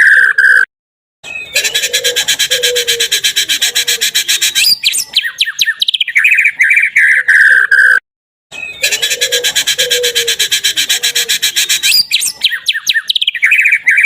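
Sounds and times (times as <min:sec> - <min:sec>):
recorded songbird song: 0:00.0 - 0:14.0.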